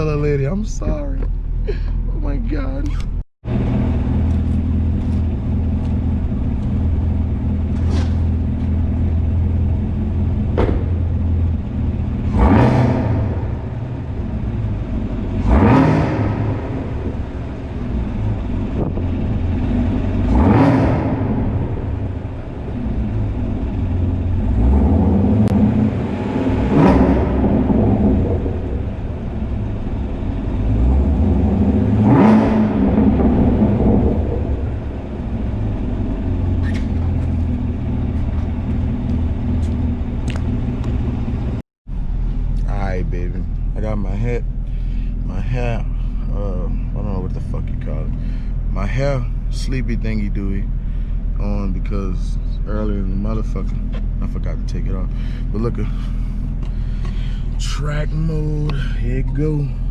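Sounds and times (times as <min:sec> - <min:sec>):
car exhaust rumbling: 0:00.0 - 0:59.9
engine throttle blips: 0:00.0 - 0:59.9.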